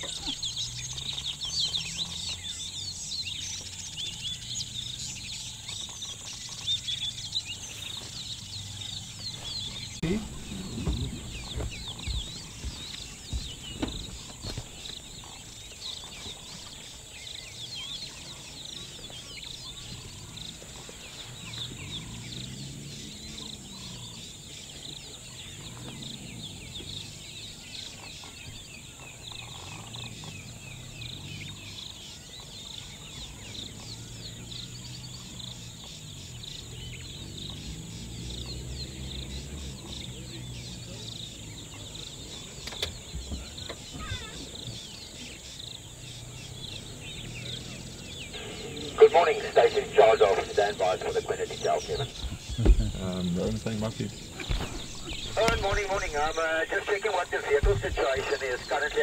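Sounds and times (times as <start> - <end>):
birds chirping and calling: 0.0 - 59.0.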